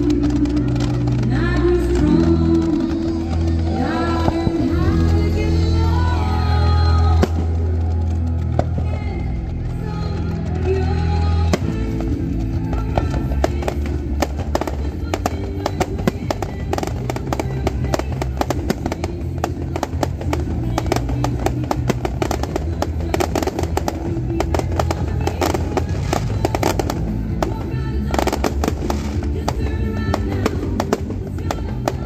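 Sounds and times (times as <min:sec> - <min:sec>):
fireworks cracking and popping: 0:00.0 - 0:05.5, 0:06.5 - 0:32.0
music playing: 0:00.0 - 0:32.0.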